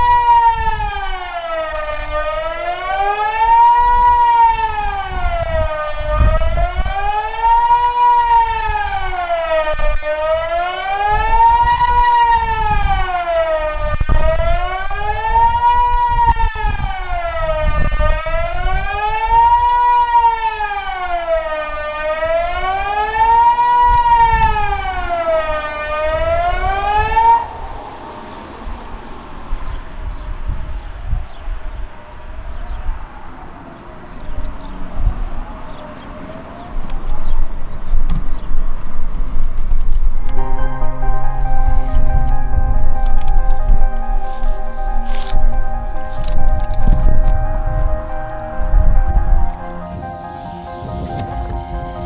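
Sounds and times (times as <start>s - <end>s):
electronic siren rising and falling: 0.0s - 33.8s, 40.2s - 52.0s.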